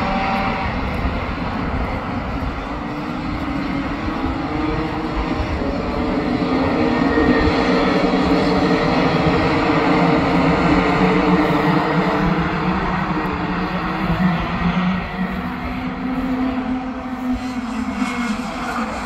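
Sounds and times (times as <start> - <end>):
racing kart engines droning: 0.0 - 19.0.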